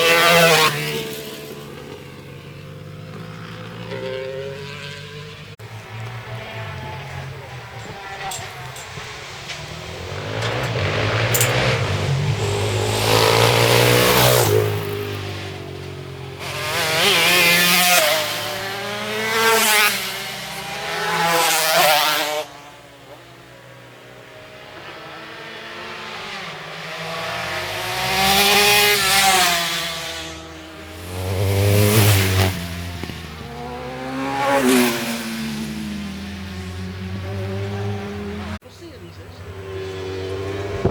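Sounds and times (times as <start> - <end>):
racing motorcycles passing: 0.0 - 40.9.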